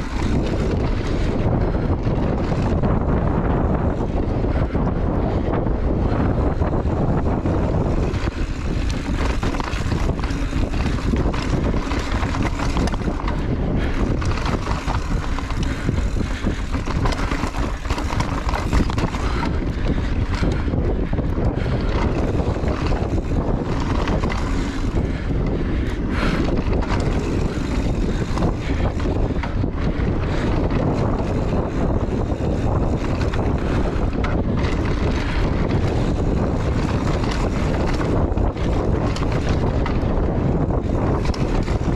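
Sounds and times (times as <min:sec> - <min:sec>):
bike rattling over bumps: 0:00.0 - 0:41.9
tyres rumbling on dirt: 0:00.0 - 0:41.9
wind buffeting microphone: 0:00.0 - 0:41.9.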